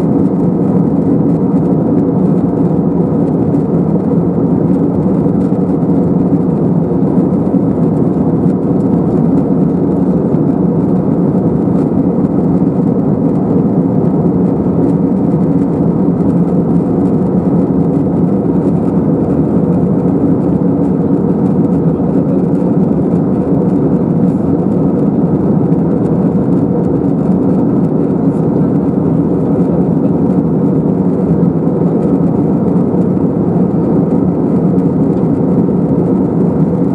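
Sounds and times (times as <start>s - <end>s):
airplane cabin drone: 0.0s - 36.9s.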